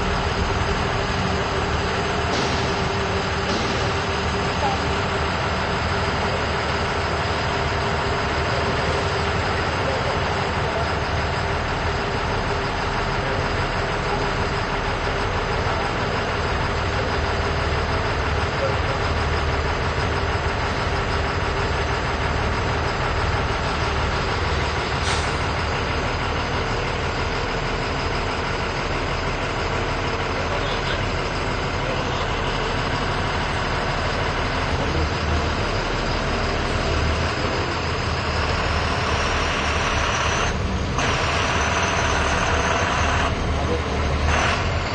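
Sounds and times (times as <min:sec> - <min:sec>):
diesel bus engine idling: 0:00.0 - 0:44.9.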